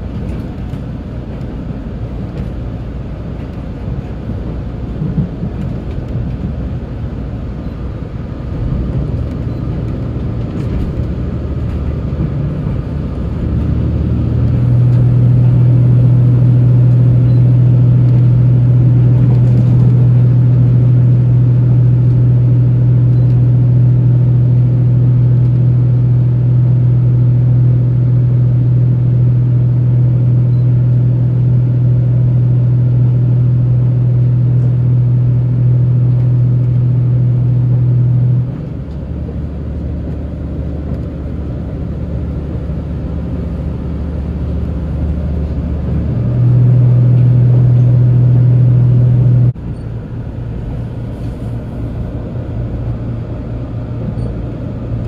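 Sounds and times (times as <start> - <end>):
diesel railcar engine droning: 0.0 - 55.0.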